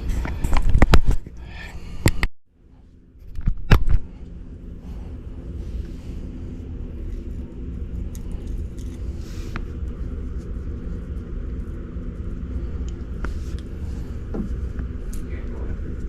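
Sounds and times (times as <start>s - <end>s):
motor rumbling: 0.0s - 16.0s.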